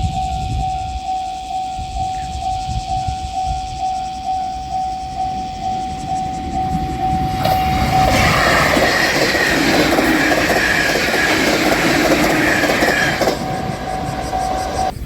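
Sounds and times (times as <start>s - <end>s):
level crossing warning bell: 0.0s - 14.9s
train high whine: 0.0s - 15.0s
train wheels rumbling and clattering: 0.4s - 15.0s.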